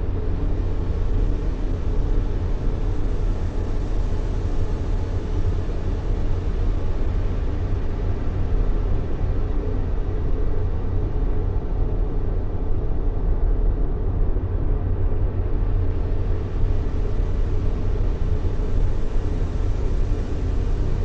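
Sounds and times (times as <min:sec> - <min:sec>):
low rumbling hiss: 0:00.0 - 0:21.0.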